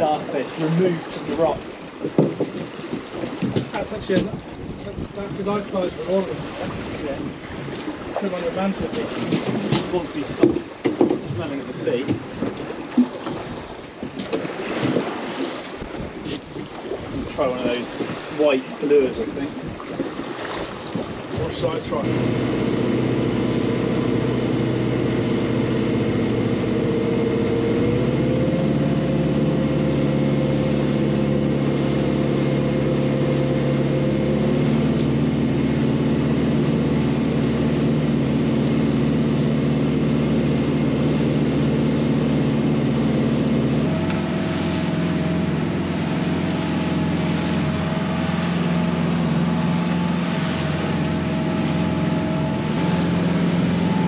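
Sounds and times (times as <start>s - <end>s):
motor boat engine running: 0.0s - 54.0s.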